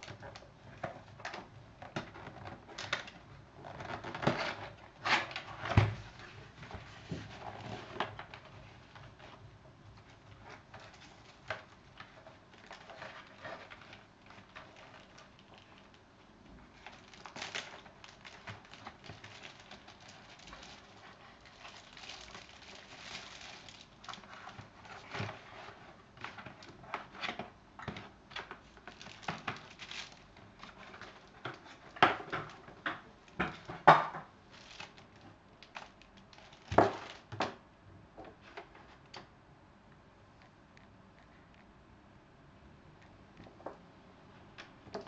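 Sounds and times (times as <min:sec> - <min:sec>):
packaging rustling and crinkling: 0:00.0 - 0:37.6.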